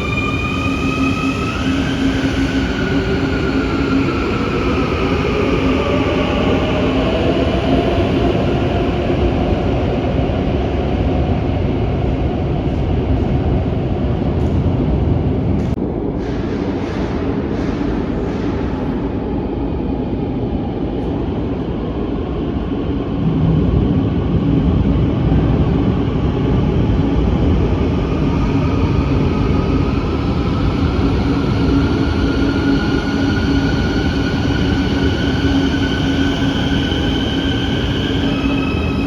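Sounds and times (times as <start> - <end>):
metro train running: 0.0 - 39.0.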